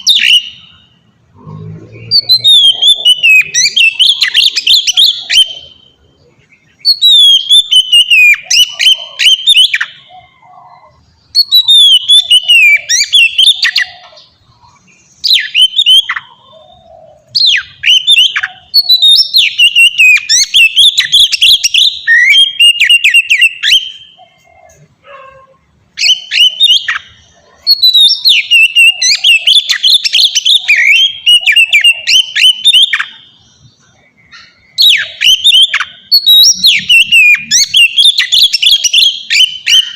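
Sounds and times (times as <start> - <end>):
bird singing whistled phrases: 0.0 - 1.0, 1.9 - 6.0, 6.6 - 14.4, 15.2 - 24.8, 26.0 - 33.6, 34.3 - 39.9.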